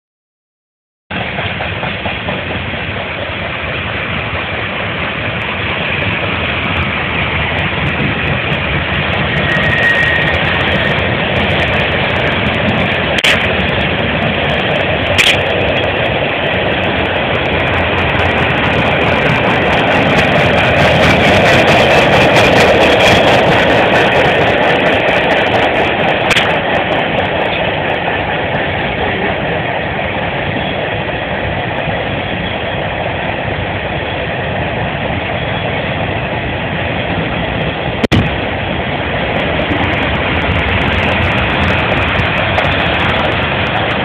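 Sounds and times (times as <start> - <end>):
freight train cars rolling: 1.1 - 44.0.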